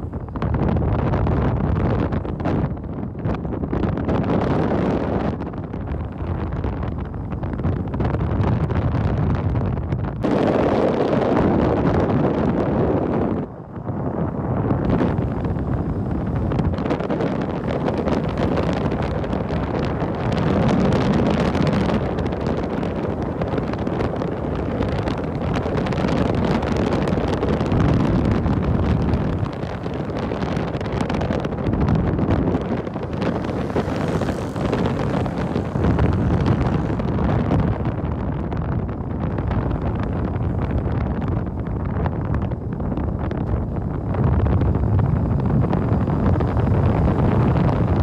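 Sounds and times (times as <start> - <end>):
wind buffeting microphone: 0.0 - 48.0
vehicle road noise: 9.4 - 48.0.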